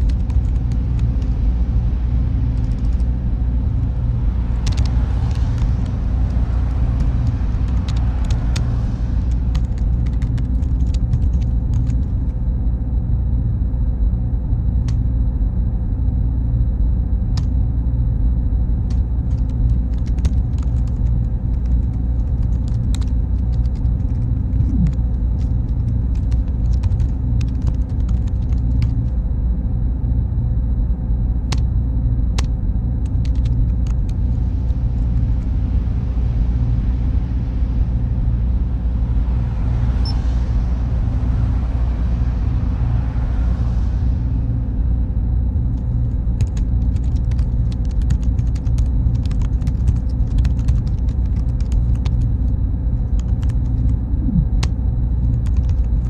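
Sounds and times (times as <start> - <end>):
cooling fans humming: 0.0 - 56.0
faint high whine: 0.0 - 56.0.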